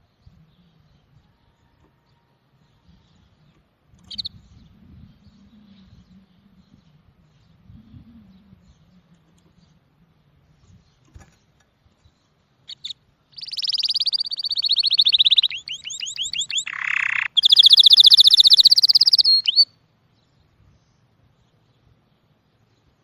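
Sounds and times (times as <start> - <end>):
songbird singing fast trills: 2.6 - 22.9.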